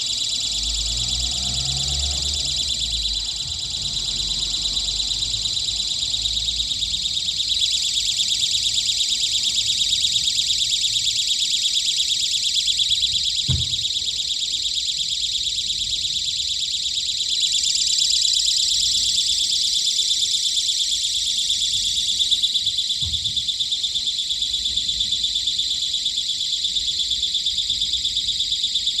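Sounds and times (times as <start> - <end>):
pulsing electronic alarm buzzer: 0.0 - 29.0.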